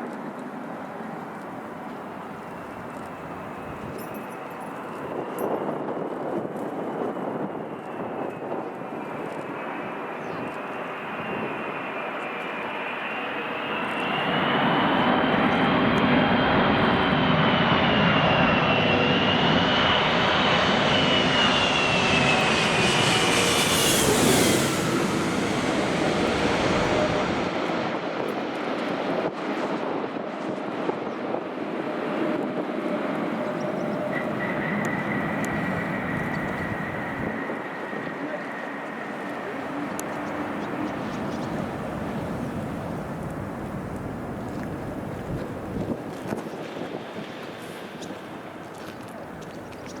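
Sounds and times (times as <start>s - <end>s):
airliner passing by: 0.0s - 50.0s.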